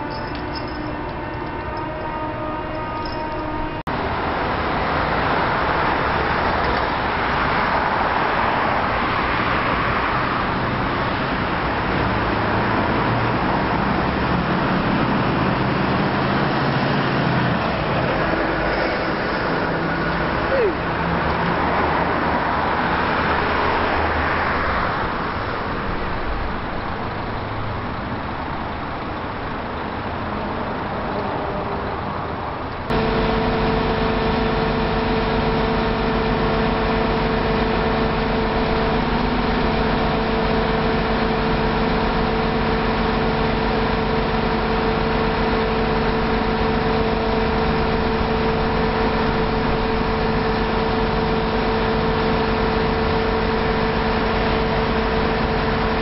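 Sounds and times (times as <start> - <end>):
diesel engine droning: 0.0 - 27.4, 31.6 - 56.0.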